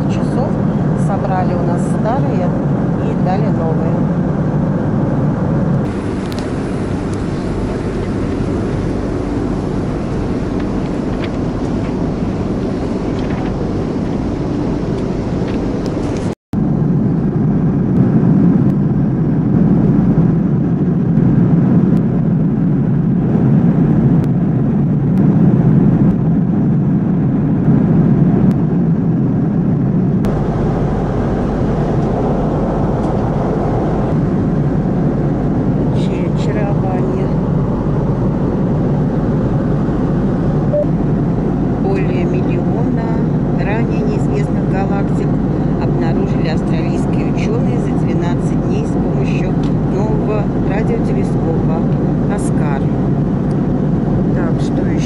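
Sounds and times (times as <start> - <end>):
airliner cabin engine and airflow rush: 0.0 - 55.0.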